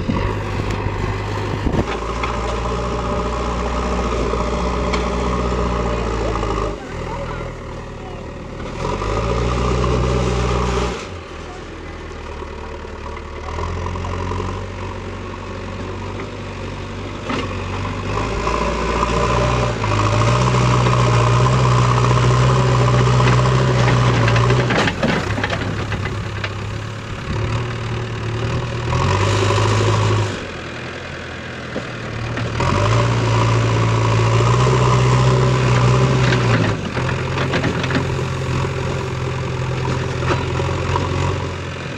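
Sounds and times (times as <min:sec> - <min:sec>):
diesel engine revving and idling: 0:00.0 - 0:41.9.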